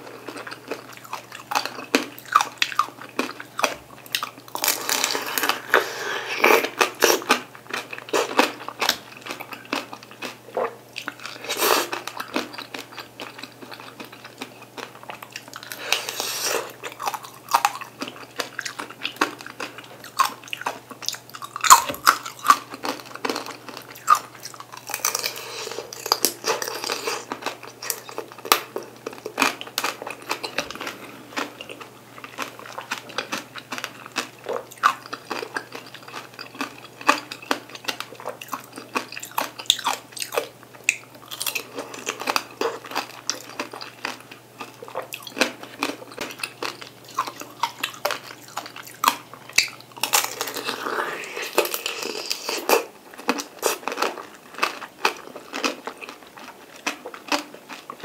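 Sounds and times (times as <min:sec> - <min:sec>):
chewing fruit: 0:00.0 - 0:58.0.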